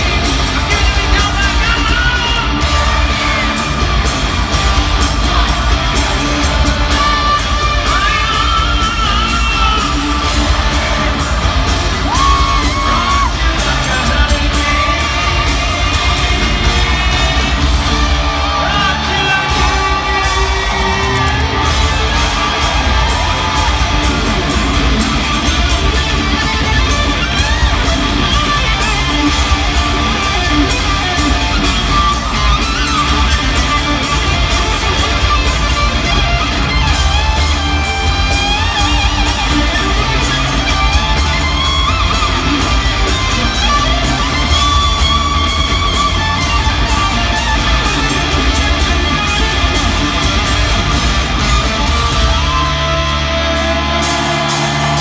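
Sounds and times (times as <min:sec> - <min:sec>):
bass: 0:00.0 - 0:55.0
drums: 0:00.0 - 0:55.0
lead electric guitar: 0:00.0 - 0:55.0.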